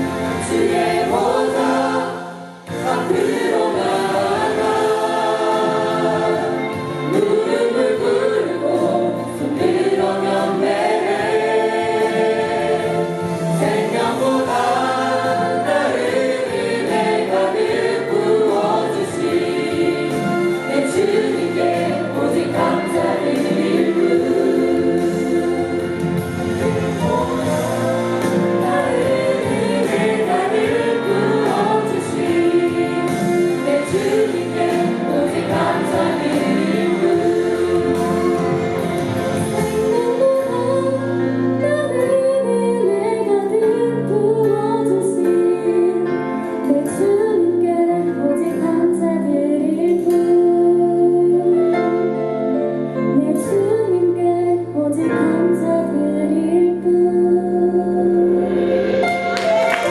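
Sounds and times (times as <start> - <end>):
choir singing gospel song: 0.0 - 59.9.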